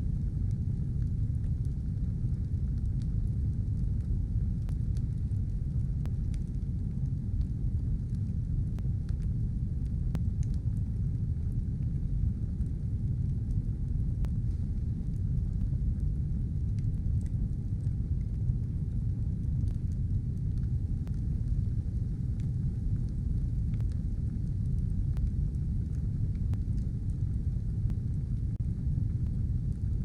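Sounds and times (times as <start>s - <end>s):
fire crackles and pops: 0.0s - 30.0s
fire roaring: 0.0s - 30.0s.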